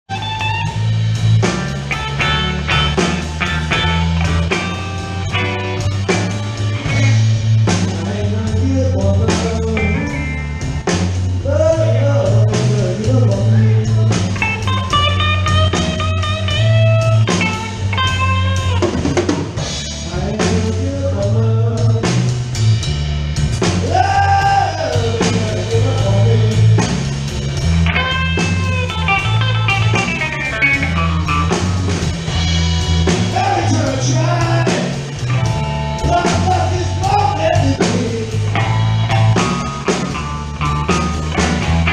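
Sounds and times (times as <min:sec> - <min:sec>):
bass: 0:00.0 - 0:41.9
electric guitar lead: 0:00.1 - 0:22.8, 0:23.5 - 0:41.9
drum kit: 0:00.1 - 0:41.9.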